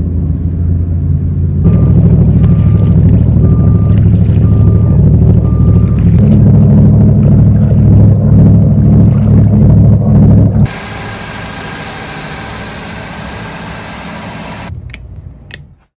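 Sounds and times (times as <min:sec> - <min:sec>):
boat engines idling: 0:01.6 - 0:15.0.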